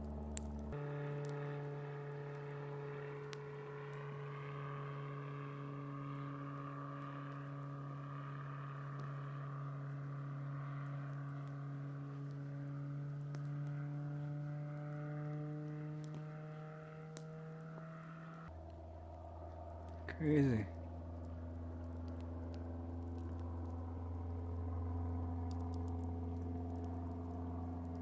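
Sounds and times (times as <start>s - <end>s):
propeller airplane engine drone: 0.0s - 28.0s.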